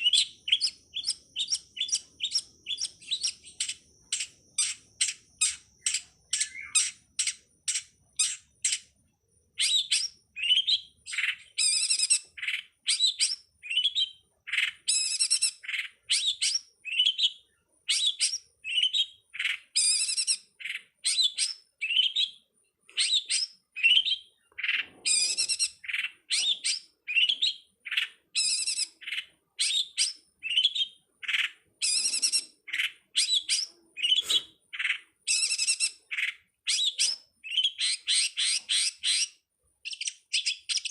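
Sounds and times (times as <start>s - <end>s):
bird chirping sharp high calls: 0.0s - 40.9s.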